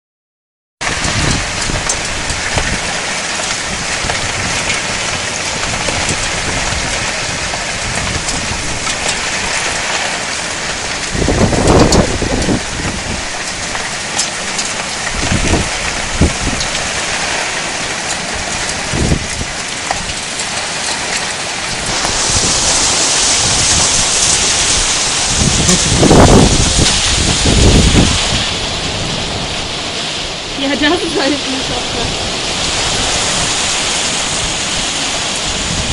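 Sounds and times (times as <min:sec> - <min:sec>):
low thunder rumble: 0:00.8 - 0:20.3, 0:21.5 - 0:35.9
heavy rain pouring: 0:00.8 - 0:35.9.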